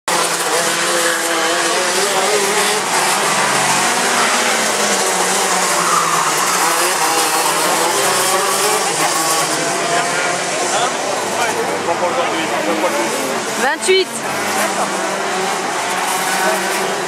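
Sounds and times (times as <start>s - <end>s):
kart engines revving: 0.1s - 17.0s.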